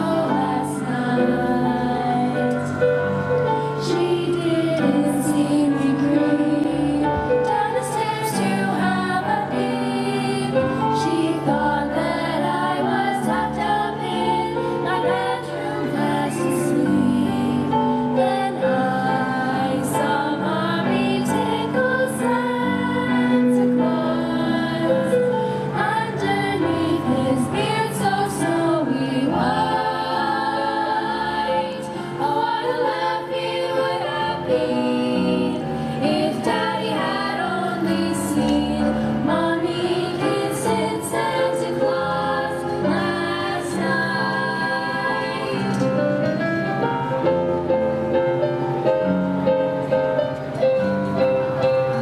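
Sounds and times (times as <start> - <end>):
girls choir singing: 0.0 - 47.2
instrumental backing: 0.0 - 52.0.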